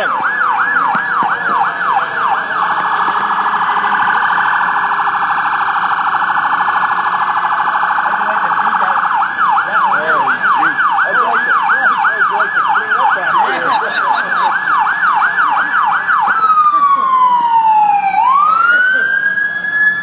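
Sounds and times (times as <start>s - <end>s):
police siren yelp and wail: 0.0s - 20.0s.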